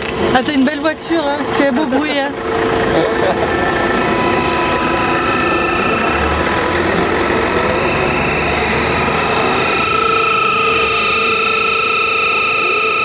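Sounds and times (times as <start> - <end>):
dense electromagnetic buzz: 0.0 - 13.0
low hum: 0.9 - 13.0.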